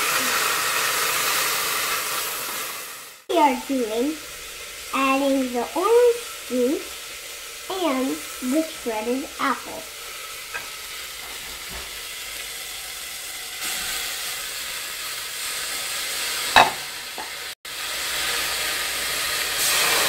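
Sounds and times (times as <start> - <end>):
cabbage sizzling in a saucepan: 0.0 - 20.0.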